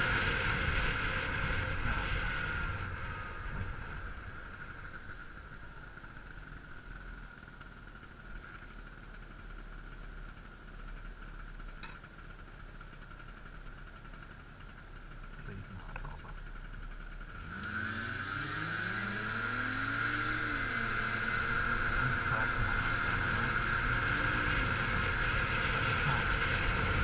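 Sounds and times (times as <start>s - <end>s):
scooter engine: 0.0s - 27.0s
wind and road noise: 0.0s - 27.0s.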